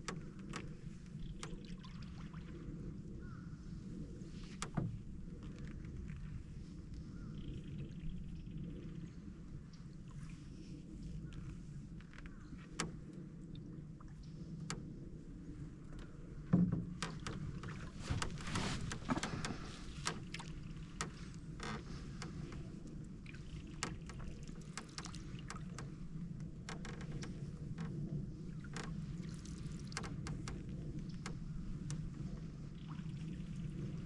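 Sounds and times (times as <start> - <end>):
knocks and creaks of hull: 0.0 - 34.0
paddle strokes in water: 0.0 - 34.0.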